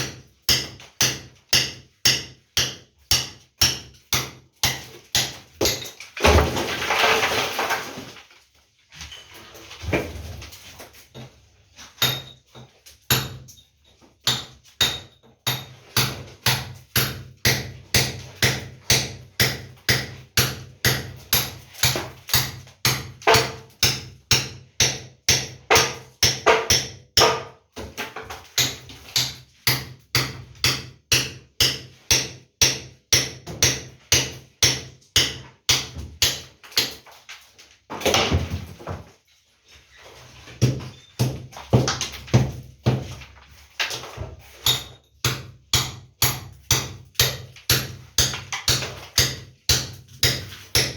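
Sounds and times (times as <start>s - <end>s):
hammer striking a wall: 0.0s - 6.6s, 12.0s - 13.6s, 14.2s - 37.0s, 40.6s - 43.2s, 43.9s - 50.9s.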